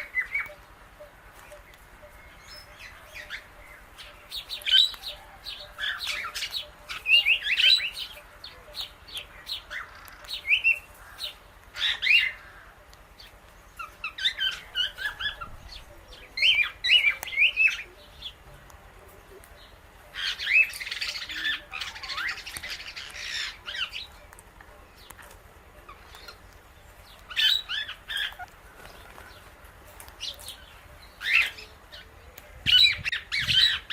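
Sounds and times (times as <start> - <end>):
parrots squawking and chirping: 0.0 - 18.4, 20.0 - 24.4, 27.2 - 33.9.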